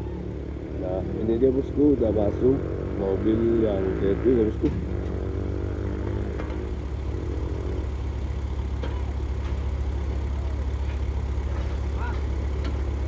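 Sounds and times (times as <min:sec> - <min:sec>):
higher engine tone: 0:00.0 - 0:13.0
vehicle engine idling: 0:00.0 - 0:13.0.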